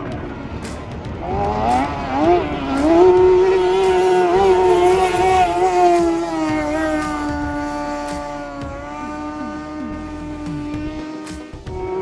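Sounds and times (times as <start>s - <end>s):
outboard motor at high revs: 0.0s - 12.0s.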